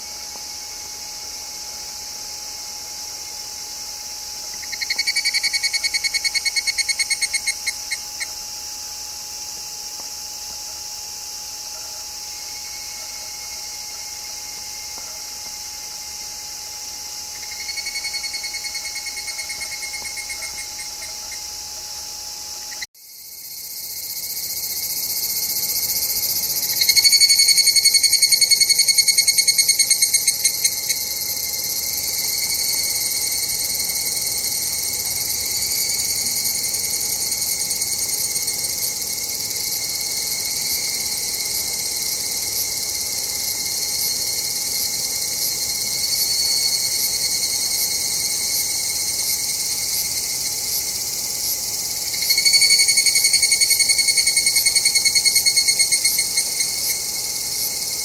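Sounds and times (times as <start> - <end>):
cicadas pulsing calls: 0.0 - 58.0
high cicada chorus: 0.0 - 58.0.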